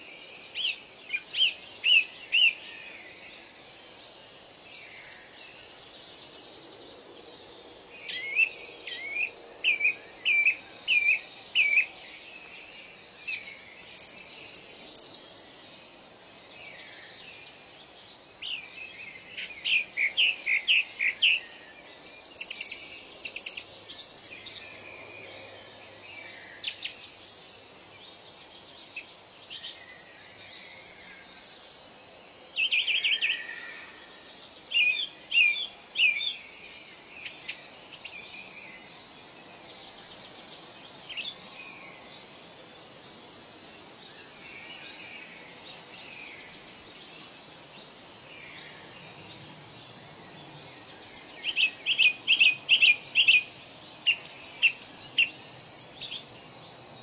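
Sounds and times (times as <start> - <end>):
birds singing and calling: 0.0 - 57.0
steady background hiss: 0.0 - 57.0.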